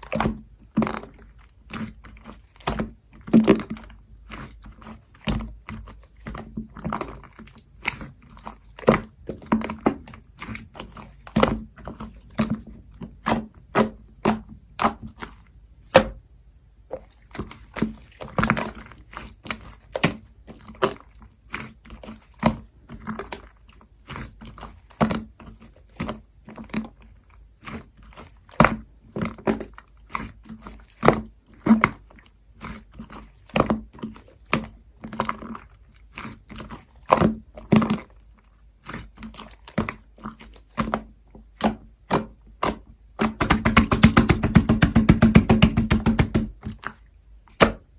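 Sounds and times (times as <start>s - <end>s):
hands squishing slime: 0.0s - 16.2s, 16.9s - 47.9s.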